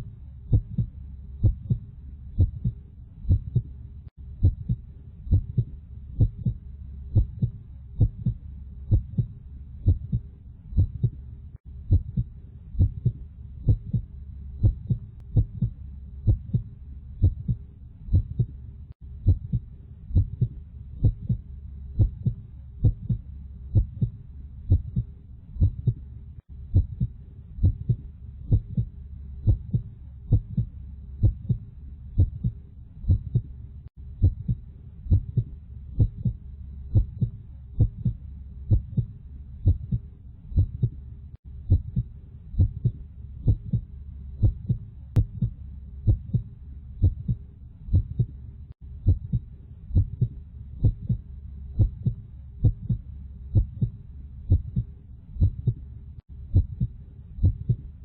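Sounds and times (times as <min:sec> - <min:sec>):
heartbeat thumps: 0:00.0 - 0:41.0, 0:41.6 - 0:58.0.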